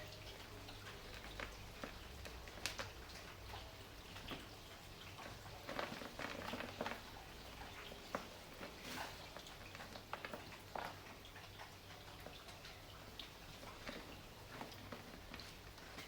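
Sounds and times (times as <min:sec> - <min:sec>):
soft rain: 0:00.0 - 0:16.0.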